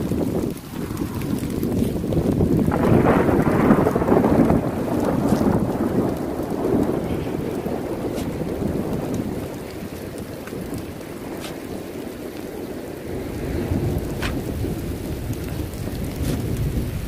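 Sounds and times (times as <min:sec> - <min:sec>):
low thunder rumble: 0:00.0 - 0:17.0
rain falling: 0:00.0 - 0:17.0.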